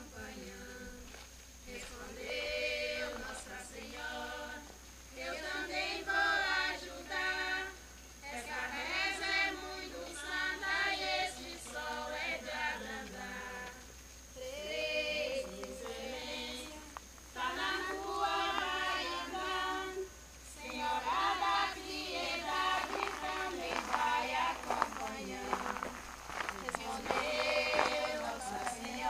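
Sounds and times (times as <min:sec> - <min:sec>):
women singing in unison: 0:00.0 - 0:29.0.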